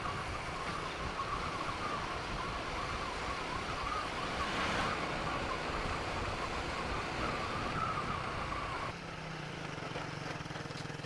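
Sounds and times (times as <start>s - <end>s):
wind rush on microphone: 0.0s - 8.9s
wavering whine: 0.0s - 9.0s.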